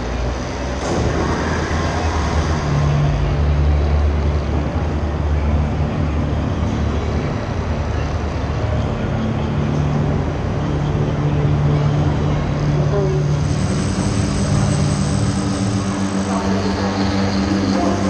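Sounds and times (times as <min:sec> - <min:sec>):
propeller motors humming: 0:00.0 - 0:18.0.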